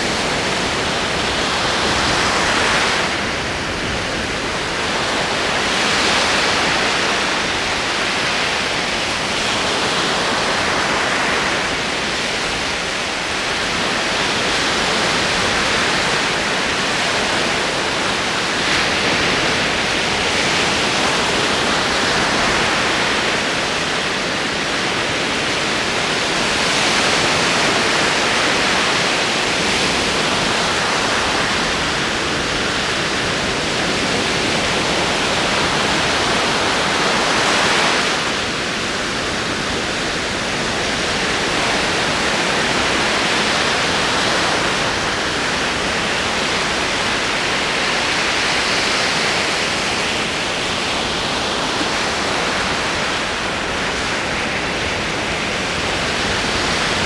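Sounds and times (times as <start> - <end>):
ocean waves rolling: 0.0 - 57.0.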